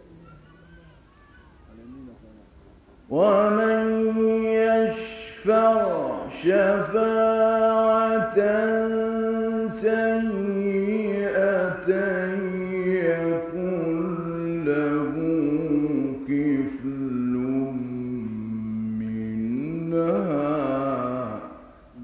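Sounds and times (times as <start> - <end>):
man chanting recitation: 1.6 - 22.0.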